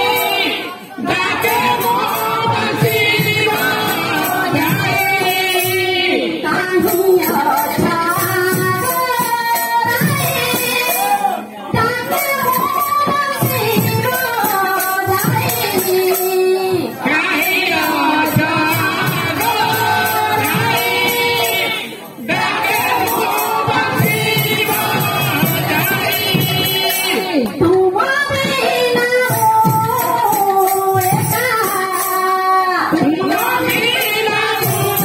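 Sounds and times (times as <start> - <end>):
voices singing devotional melody: 0.0 - 35.0.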